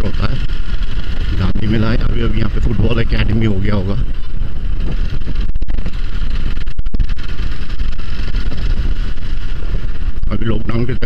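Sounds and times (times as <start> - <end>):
motorcycle engine rumble: 0.0 - 11.0
wind noise: 0.0 - 11.0.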